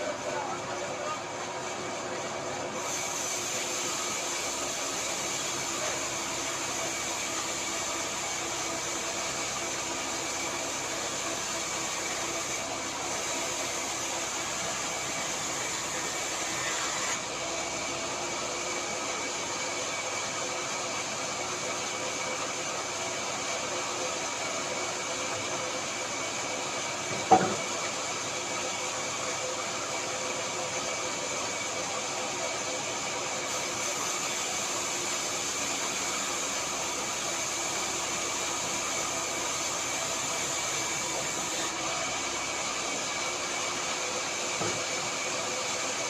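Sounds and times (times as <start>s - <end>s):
power saw running: 2.8s - 23.2s, 26.0s - 46.0s.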